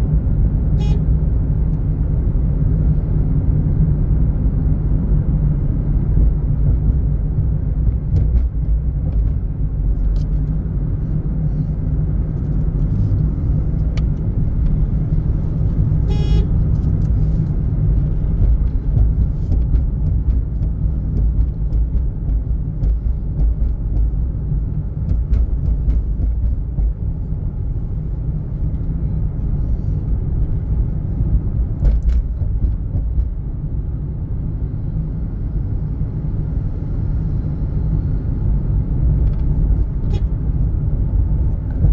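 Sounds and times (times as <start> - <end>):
vehicle engine and road noise: 0.0 - 41.9.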